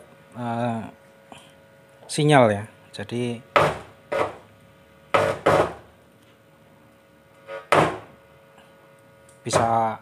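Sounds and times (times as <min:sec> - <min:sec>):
faint mains hum: 0:00.0 - 0:10.0.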